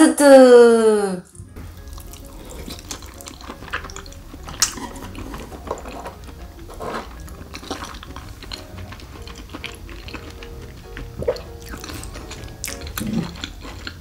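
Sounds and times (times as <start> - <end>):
wet chewing with mouth clicks: 1.3 - 14.0.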